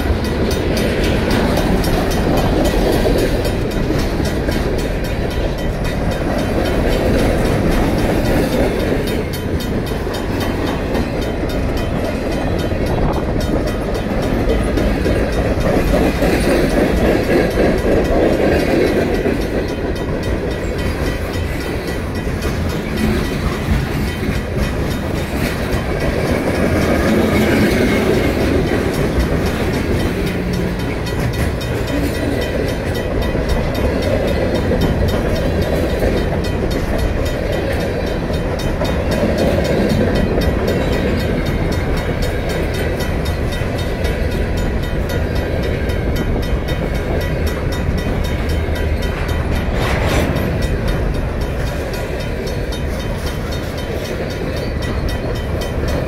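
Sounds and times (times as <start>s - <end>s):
freight train cars rolling past: 0.0s - 56.0s
wheels clattering over rail joints: 0.0s - 56.0s.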